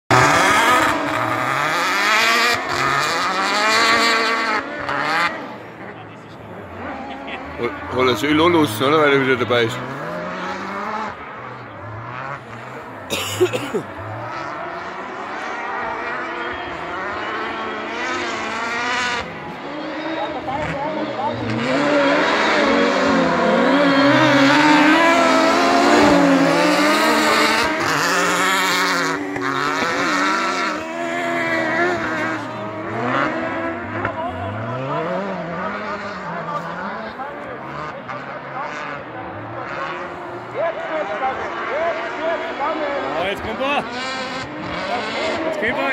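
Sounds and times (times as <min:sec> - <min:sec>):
buggy engine revving high: 0:00.1 - 0:45.9.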